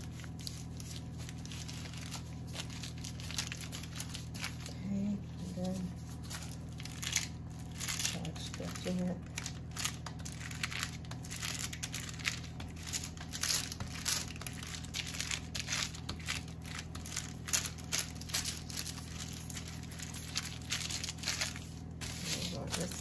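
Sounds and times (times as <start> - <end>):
low hum: 0.0 - 23.0
parchment paper crinkling: 0.0 - 23.0.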